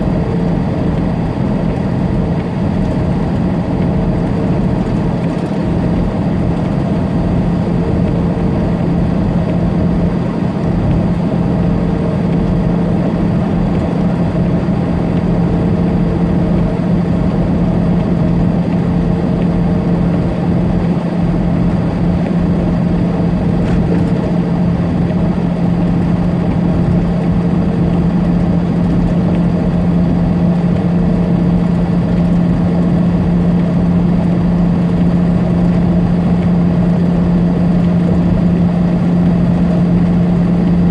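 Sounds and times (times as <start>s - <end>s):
diesel engine droning: 0.0s - 40.9s
road noise rumble: 0.0s - 40.9s.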